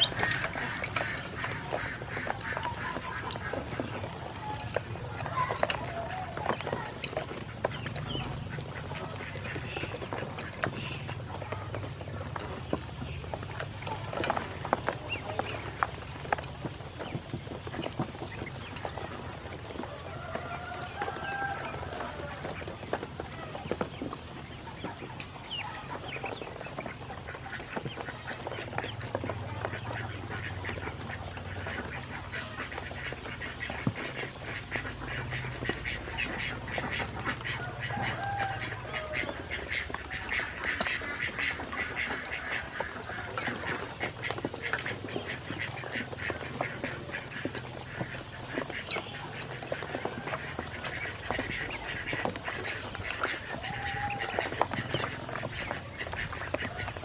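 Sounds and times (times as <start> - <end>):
bills dabbling in water: 0.0 - 57.0
ducklings peeping: 0.0 - 57.0.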